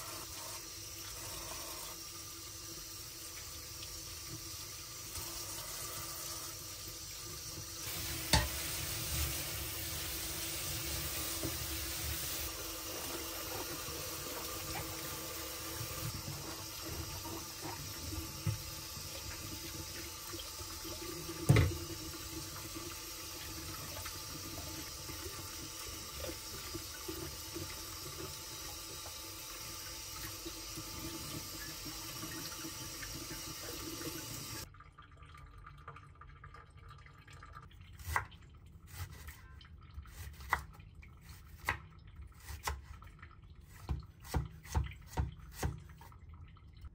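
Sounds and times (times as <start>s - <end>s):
tap water running into sink: 0.0s - 46.9s.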